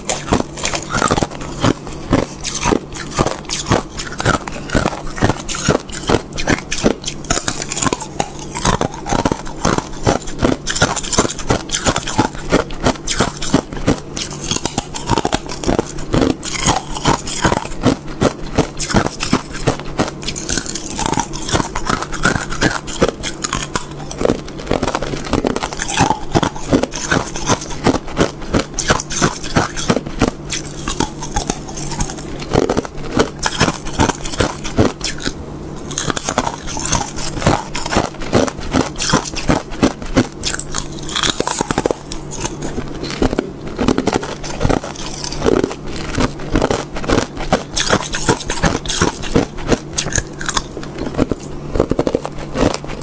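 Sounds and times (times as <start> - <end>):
ice crunching while chewed: 0.0 - 53.0.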